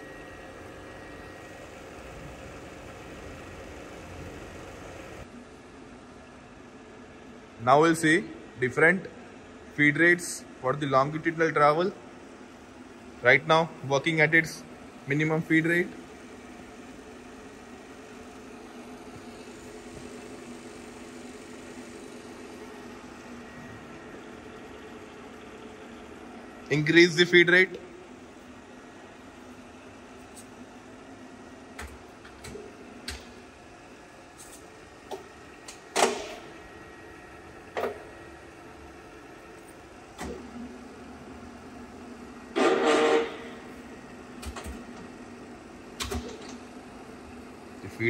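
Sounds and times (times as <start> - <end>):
milling machine feed hum: 0.0 - 48.0.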